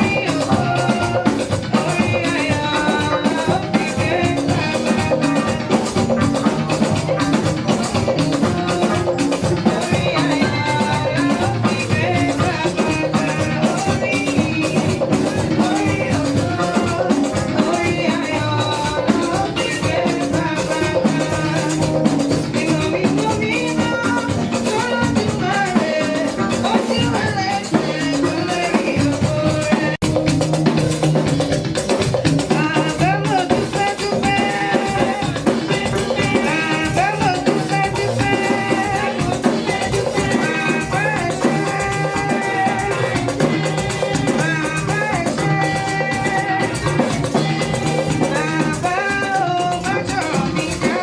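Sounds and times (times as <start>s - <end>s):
drums: 0.0s - 51.0s
people singing: 0.0s - 51.0s
shaken percussion: 0.0s - 51.0s.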